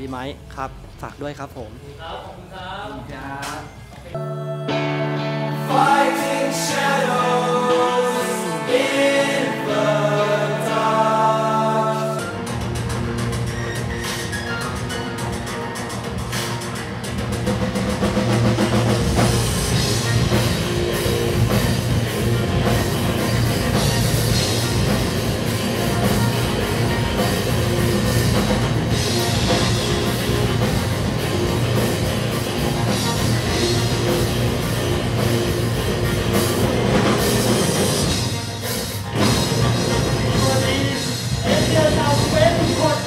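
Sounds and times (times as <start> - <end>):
rock band playing live: 3.7 - 43.0.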